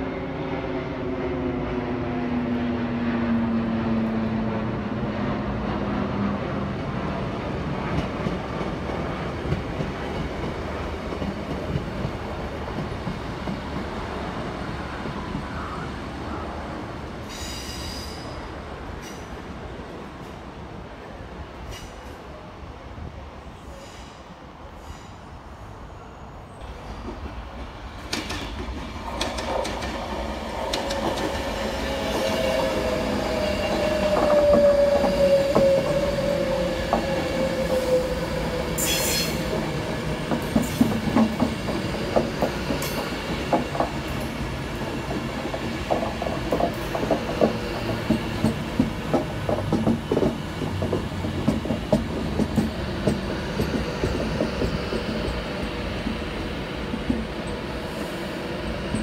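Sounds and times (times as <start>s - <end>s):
train whine: 0.0s - 20.3s, 23.6s - 59.0s
train rumbling past: 0.0s - 59.0s.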